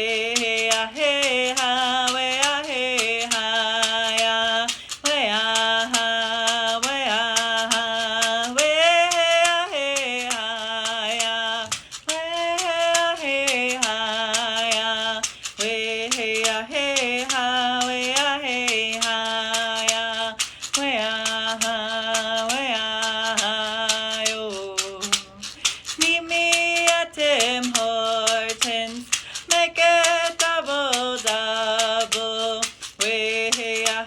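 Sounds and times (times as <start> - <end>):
person singing vocable notes: 0.0 - 34.0
quick percussion beat: 0.0 - 34.0.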